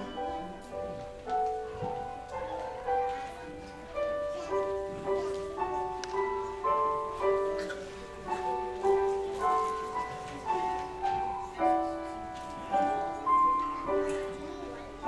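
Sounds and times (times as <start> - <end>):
grand piano melody: 0.0 - 15.0.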